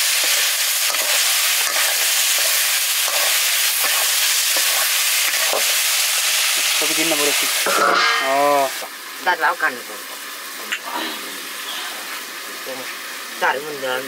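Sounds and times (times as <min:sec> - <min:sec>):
chicken and onion sizzling in oil: 0:00.0 - 0:14.0.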